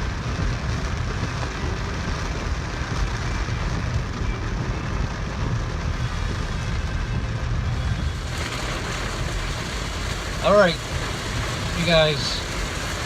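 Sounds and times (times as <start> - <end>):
rain hissing on car: 0.0 - 13.0
road rumble inside car: 0.0 - 13.0.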